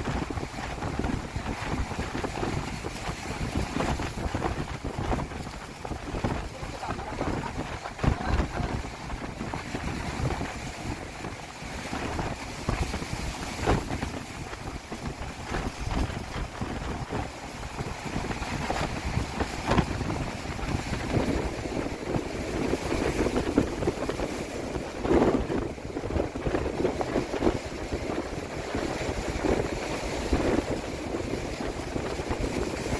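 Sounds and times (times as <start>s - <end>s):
gusty wind buffeting microphone: 0.0s - 32.9s.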